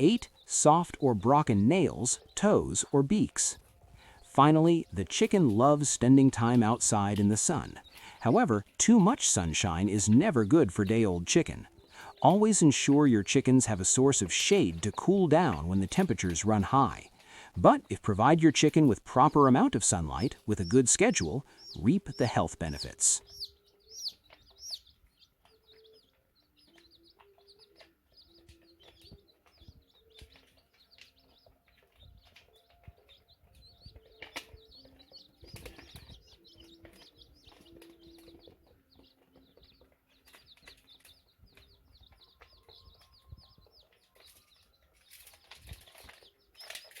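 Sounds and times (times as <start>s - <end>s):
chicks peeping: 0.0s - 47.0s.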